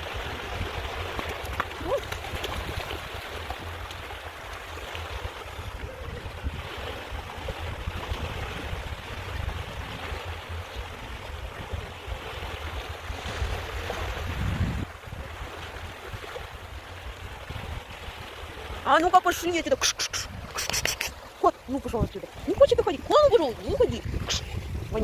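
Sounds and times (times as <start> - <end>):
water lapping at shore: 0.0 - 25.0
wind rumbling on microphone: 0.0 - 25.0.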